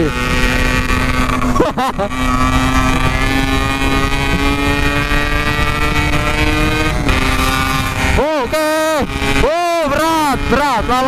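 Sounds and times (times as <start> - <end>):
two-stroke motorcycle engine pulling: 0.0 - 11.0.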